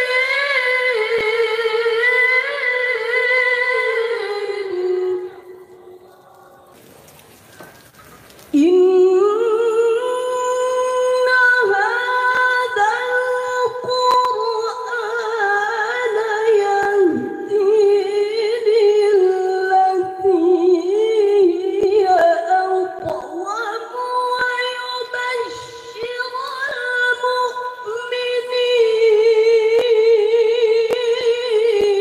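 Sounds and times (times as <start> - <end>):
person reciting melodically: 0.0 - 7.1, 8.5 - 32.0.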